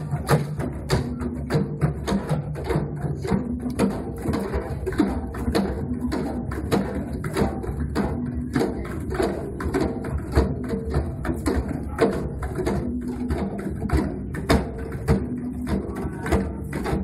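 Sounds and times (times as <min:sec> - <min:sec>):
djembe drums playing: 0:00.0 - 0:17.0.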